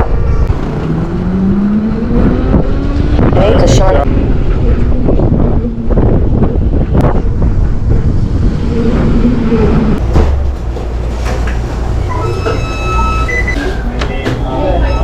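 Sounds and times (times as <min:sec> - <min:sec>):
wind buffeting microphone: 0:00.0 - 0:12.0
road and tyre noise: 0:00.0 - 0:14.9.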